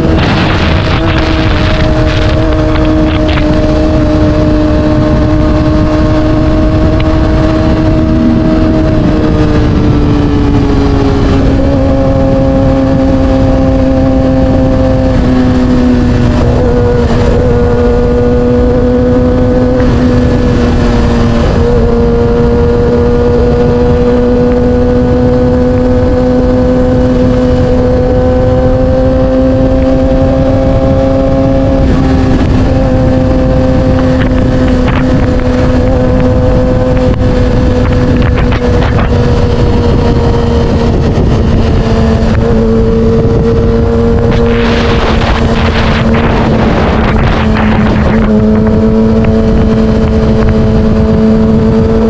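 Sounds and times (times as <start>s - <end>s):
motorcycle engine at high revs: 0.0s - 52.0s.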